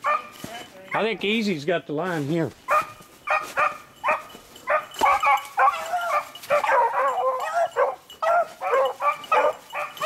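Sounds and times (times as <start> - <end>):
beagle baying and barking: 0.0 - 1.2, 2.7 - 10.0.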